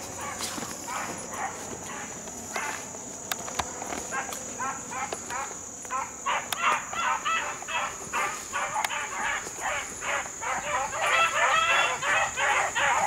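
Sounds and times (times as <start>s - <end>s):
dogs baying and yelping: 0.0s - 2.9s, 3.6s - 13.0s.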